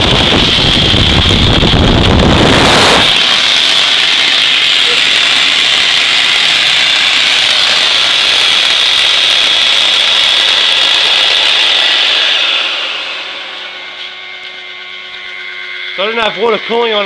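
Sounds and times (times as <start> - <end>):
jet engine roar with high whine: 0.0 - 17.0.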